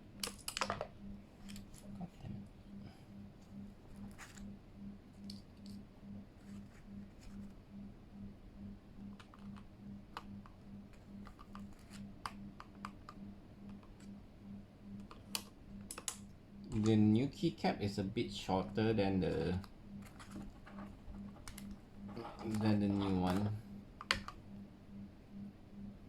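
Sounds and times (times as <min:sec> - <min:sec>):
faint pulsing low hum: 0:00.0 - 0:26.0.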